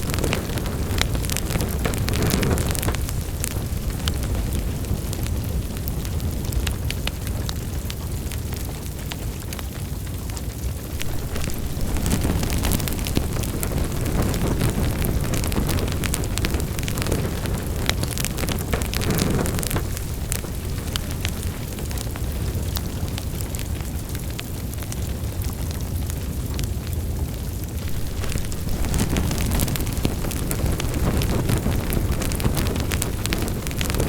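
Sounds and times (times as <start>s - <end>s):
fire crackling and popping: 0.0s - 34.0s
wood fire burning: 0.0s - 34.0s.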